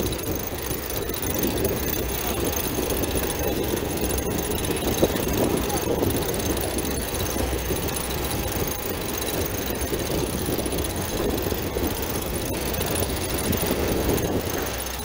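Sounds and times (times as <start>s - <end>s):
deep rumble: 0.0s - 15.0s.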